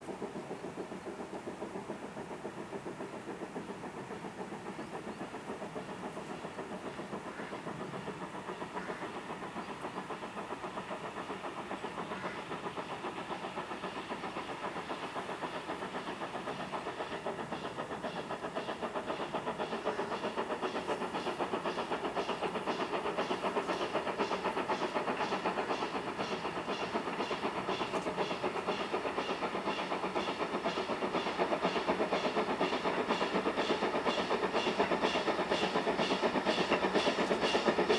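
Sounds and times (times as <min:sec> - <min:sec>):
fast even locomotive beat: 0:00.0 - 0:37.9
steam locomotive running: 0:00.0 - 0:37.9.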